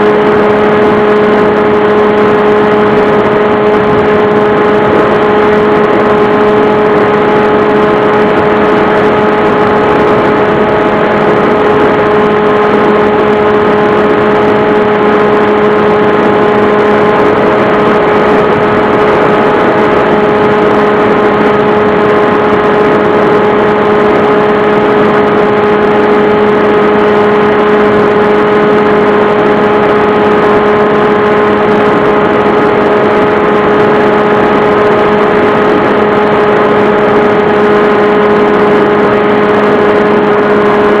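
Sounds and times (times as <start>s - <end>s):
model aircraft motor humming: 0.0s - 41.0s.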